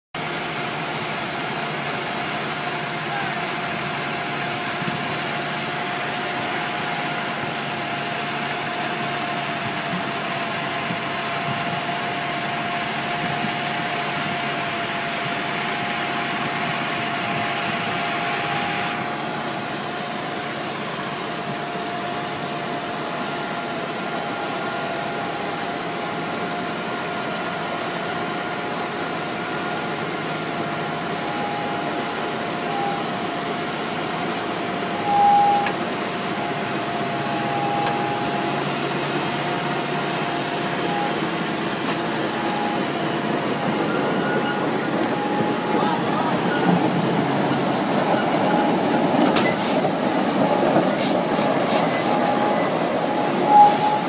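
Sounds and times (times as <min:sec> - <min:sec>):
heavy diesel engine running: 0:00.2 - 0:54.0
held whine: 0:01.1 - 0:54.0.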